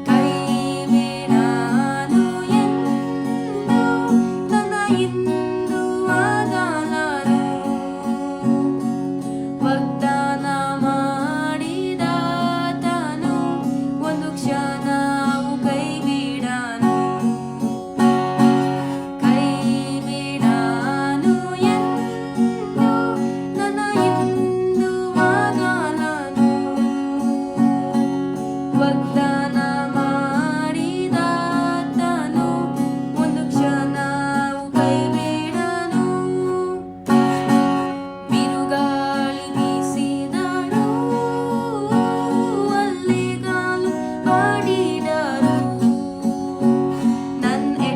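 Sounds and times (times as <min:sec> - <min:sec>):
strummed acoustic guitar: 0:00.0 - 0:47.9
woman singing: 0:00.0 - 0:47.9.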